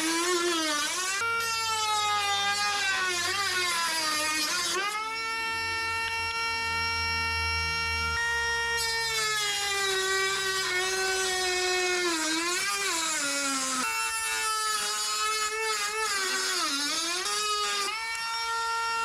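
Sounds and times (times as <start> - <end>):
power tool whining cutting plastic: 0.0 - 19.0.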